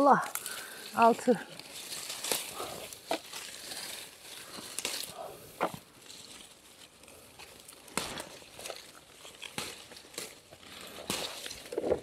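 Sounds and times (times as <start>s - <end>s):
foliage rustling and crackling: 0.0s - 12.0s
stems snapping: 0.0s - 12.0s.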